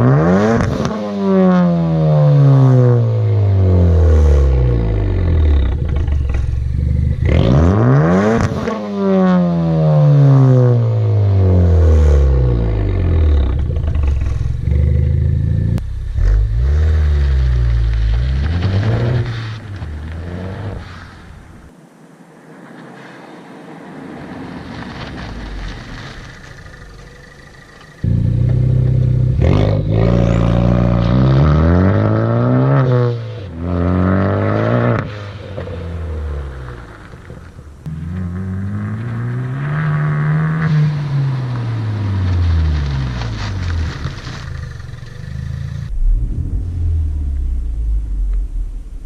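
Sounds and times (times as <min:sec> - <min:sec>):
car engine accelerating through gears: 0:00.0 - 0:21.1, 0:25.4 - 0:49.0.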